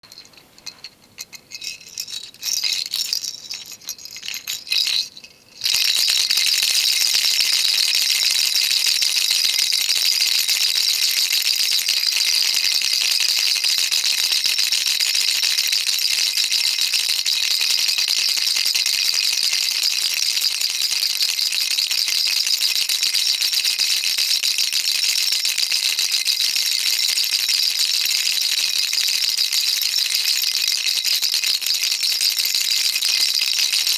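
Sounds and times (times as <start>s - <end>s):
baby rattle shaking: 0.0s - 33.9s.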